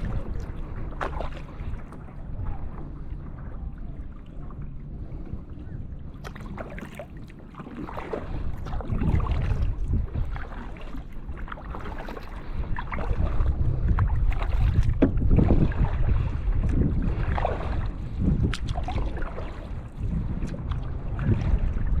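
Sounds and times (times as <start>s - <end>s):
paddle splashing in water: 0.0s - 2.9s, 6.1s - 22.0s
wind buffeting microphone: 0.0s - 22.0s.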